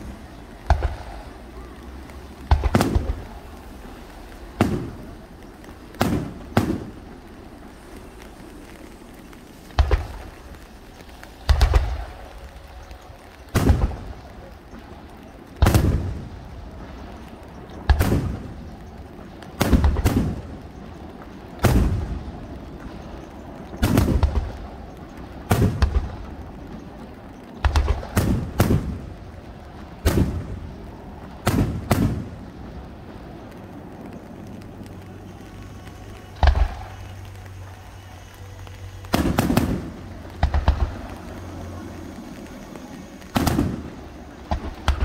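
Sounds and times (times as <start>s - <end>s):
firework shells bursting: 0.0s - 45.0s.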